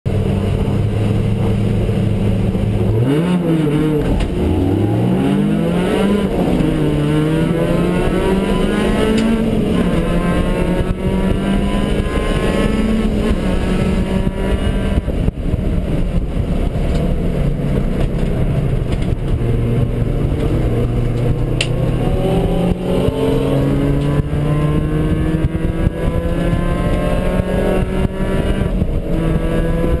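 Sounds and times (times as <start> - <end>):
race car engine revving: 0.2 - 30.0.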